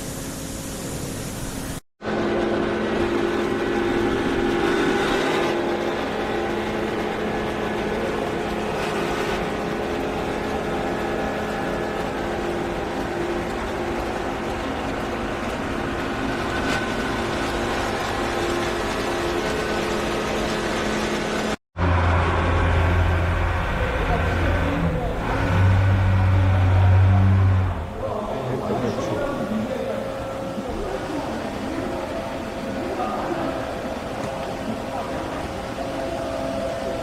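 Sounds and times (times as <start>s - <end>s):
machine hum with whine: 2.0s - 37.0s.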